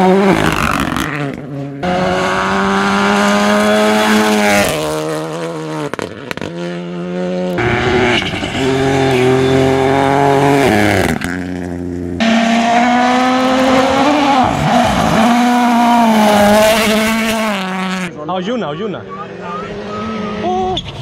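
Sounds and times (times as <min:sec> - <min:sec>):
rally car engines at high revs: 0:00.0 - 0:21.0.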